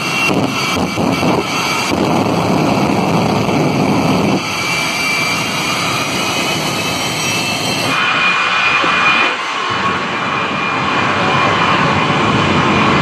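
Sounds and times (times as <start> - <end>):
jet engine blasting: 0.0 - 13.0.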